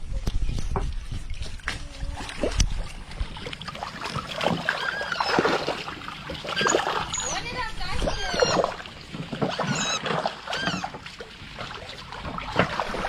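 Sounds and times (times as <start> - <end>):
water noise: 0.0 - 13.0
small boat engine: 2.0 - 13.0.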